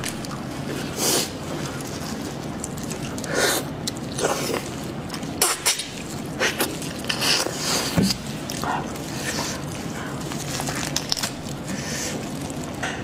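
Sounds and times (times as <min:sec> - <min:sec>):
wet slurping and sucking: 0:00.6 - 0:12.7.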